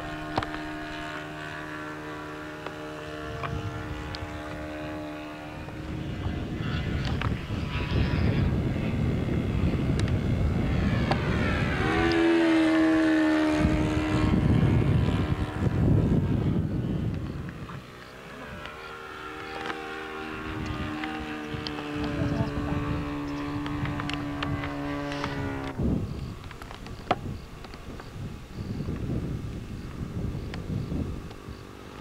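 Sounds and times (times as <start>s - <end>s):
model airplane engine buzzing: 0.0s - 32.0s
wind rumbling on microphone: 0.0s - 32.0s.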